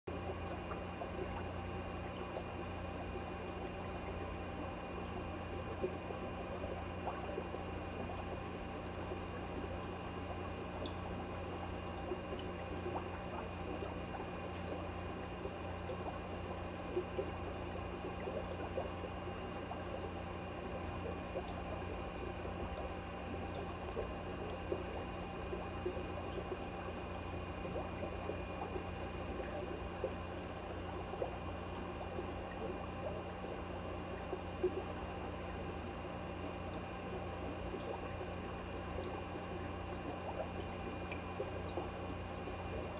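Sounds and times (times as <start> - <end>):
water trickling: 0.1 - 42.9.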